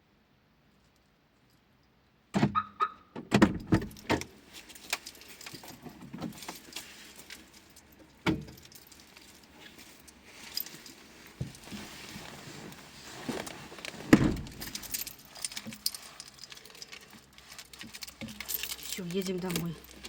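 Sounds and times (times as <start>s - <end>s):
handling knocks and clicks: 3.3s - 20.0s.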